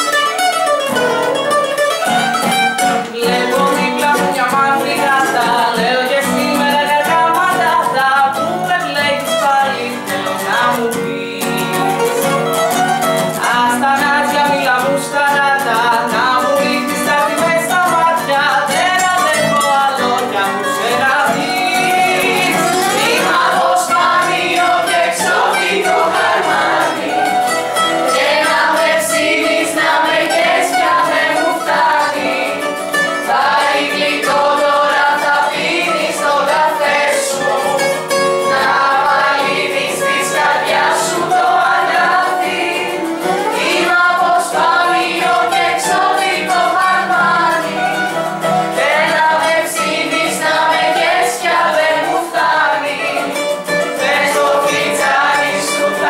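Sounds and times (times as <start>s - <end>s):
bouzouki: 0.0s - 56.0s
strummed acoustic guitar: 0.0s - 56.0s
young voices singing in chorus: 3.0s - 12.0s, 13.4s - 56.0s.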